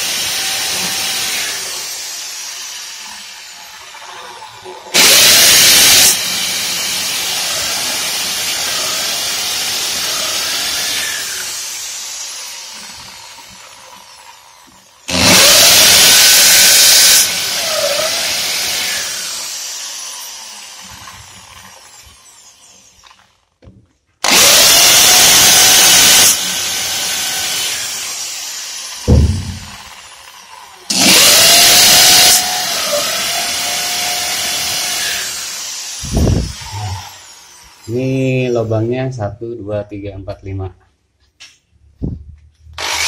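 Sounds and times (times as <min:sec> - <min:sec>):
drill motor winding down whine: 0:00.0 - 0:23.4, 0:24.2 - 0:38.0, 0:42.8 - 0:43.0
electric drill drilling into wall: 0:00.0 - 0:23.6, 0:24.2 - 0:38.0, 0:42.7 - 0:43.0.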